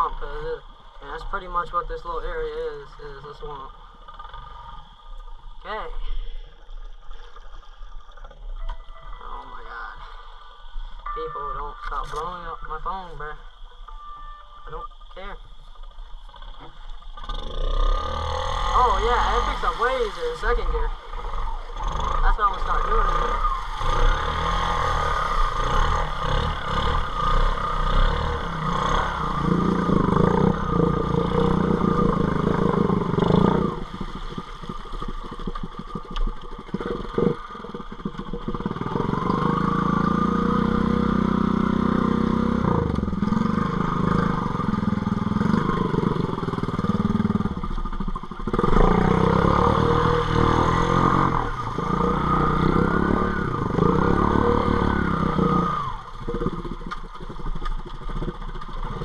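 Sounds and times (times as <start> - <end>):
atv engine revving: 0.0 - 5.9, 16.2 - 59.0
engine knocks and clatter: 0.0 - 9.0, 15.0 - 59.0.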